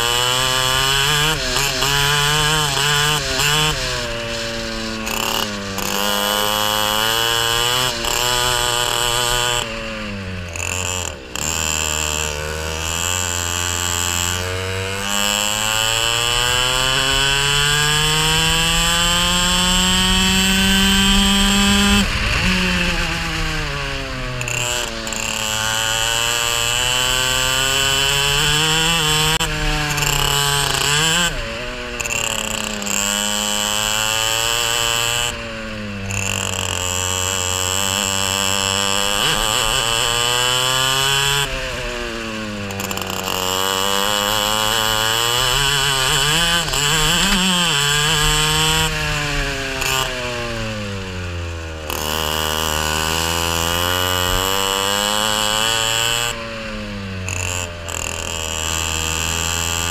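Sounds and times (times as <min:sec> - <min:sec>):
high rasp over engine: 0:00.0 - 0:59.9
racing kart engine: 0:00.0 - 0:59.9.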